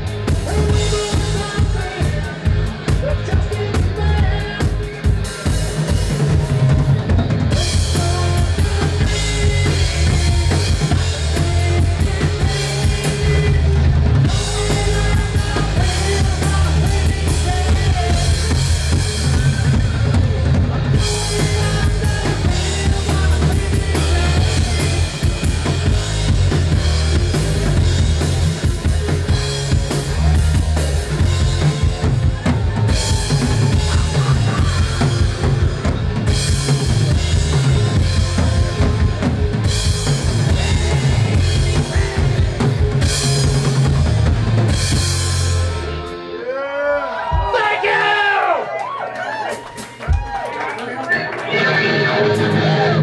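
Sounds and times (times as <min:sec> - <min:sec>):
bass drum and snare beat: 0:00.0 - 0:45.6
loud live rock band: 0:00.0 - 0:53.0.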